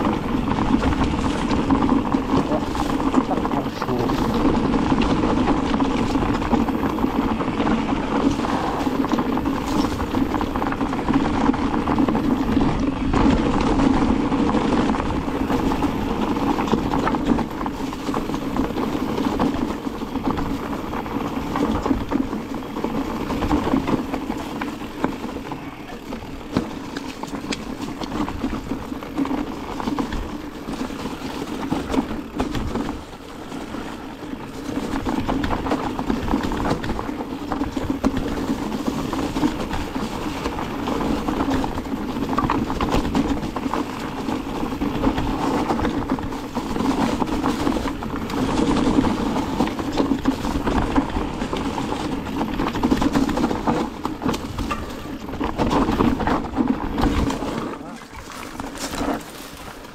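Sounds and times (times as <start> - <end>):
bike rattling and knocking: 0.0 - 59.9
tyres crunching over dirt and leaves: 0.0 - 59.9.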